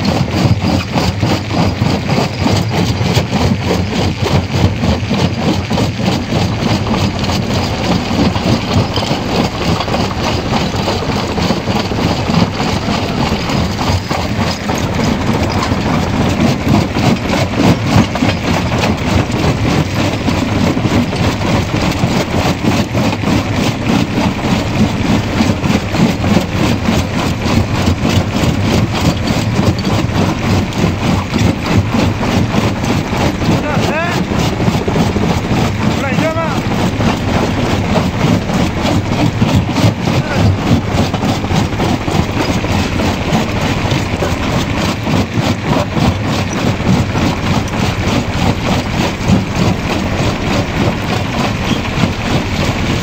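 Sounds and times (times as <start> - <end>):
crusher machine drone: 0.0 - 53.0.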